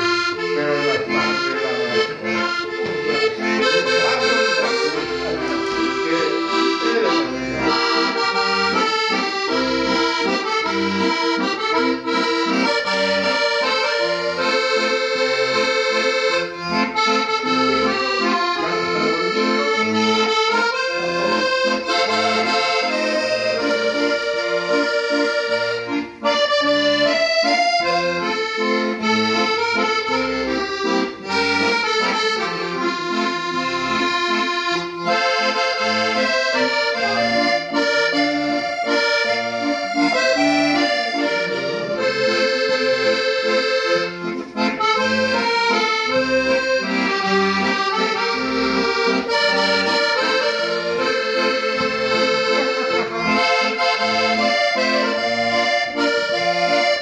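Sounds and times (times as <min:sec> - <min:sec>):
solo accordion: 0:00.0 - 0:57.0.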